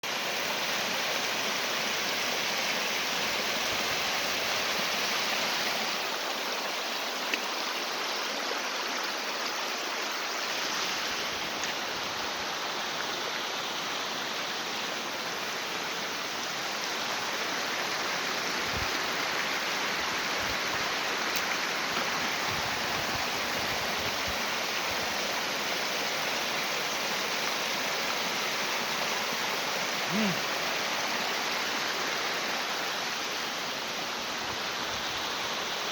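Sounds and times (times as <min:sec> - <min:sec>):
stream water rushing: 0:00.0 - 0:35.9.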